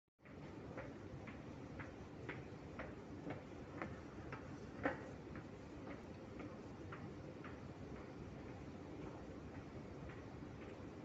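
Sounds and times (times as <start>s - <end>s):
footsteps on metal walkway: 0.2s - 11.0s.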